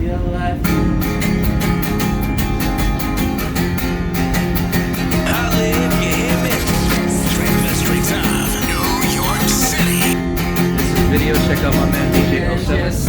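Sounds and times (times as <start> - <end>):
guitar strumming grunge rock: 1.3 - 12.2.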